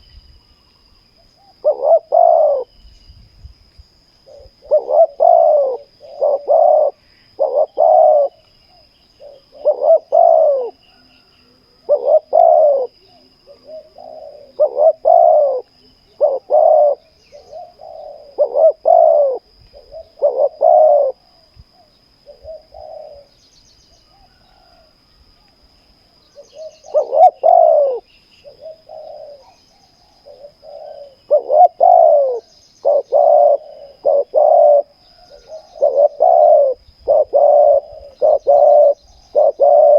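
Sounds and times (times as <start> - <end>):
faint chirps: 0.0 - 39.9
doves cooing: 1.4 - 2.7, 4.2 - 23.4, 24.1 - 25.6, 26.3 - 39.9.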